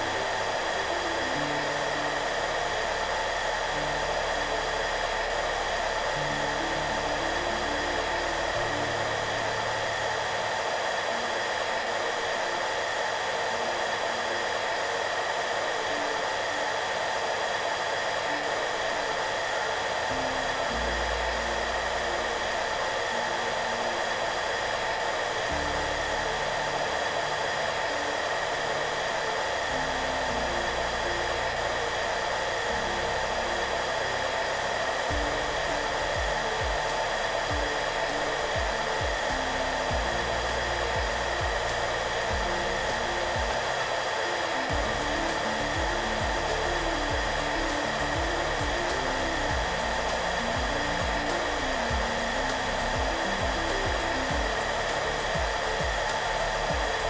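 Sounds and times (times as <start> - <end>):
hair dryer blowing: 0.0 - 57.0
soft background music: 0.0 - 57.0.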